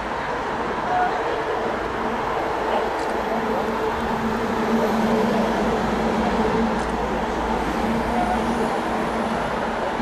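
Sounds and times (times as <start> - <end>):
street noise: 0.0 - 10.0.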